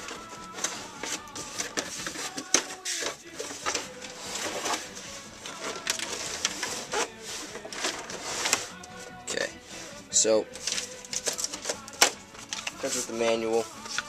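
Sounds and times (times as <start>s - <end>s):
cardboard and paper rustling: 0.0s - 9.1s, 9.8s - 14.0s.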